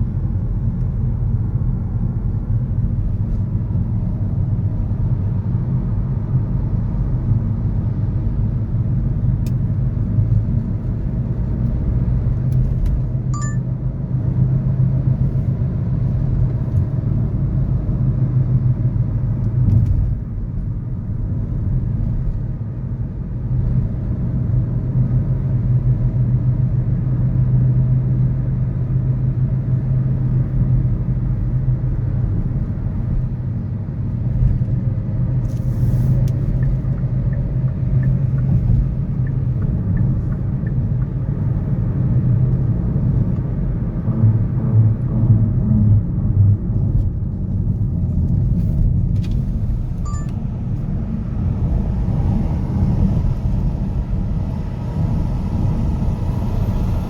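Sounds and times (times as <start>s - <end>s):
city road traffic rumble: 0.0s - 57.0s.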